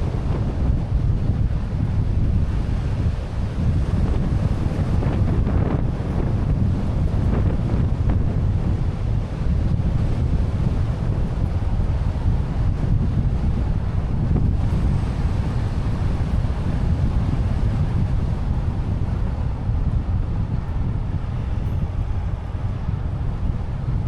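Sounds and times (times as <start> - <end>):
car road and wind rumble: 0.0 - 24.0.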